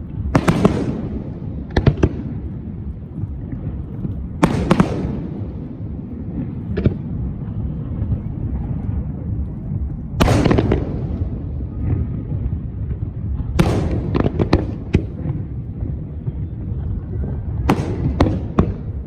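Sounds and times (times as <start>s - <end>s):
crowd rumble: 0.0s - 19.0s
fireworks bangs: 0.0s - 19.0s
fireworks crackle: 0.0s - 19.0s
wind noise: 0.0s - 19.0s.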